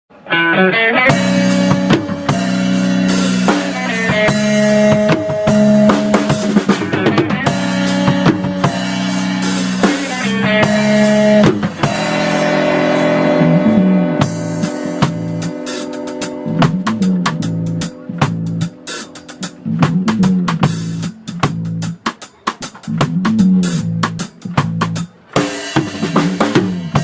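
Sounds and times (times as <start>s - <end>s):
live band playing: 0.1s - 27.0s
drum kit with rimshots: 0.8s - 27.0s.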